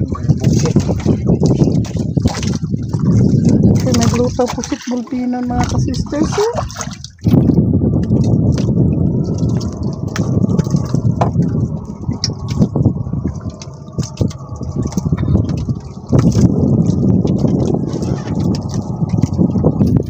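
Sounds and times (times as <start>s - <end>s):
low rumble: 0.0s - 20.0s
wet spatters: 0.0s - 20.0s.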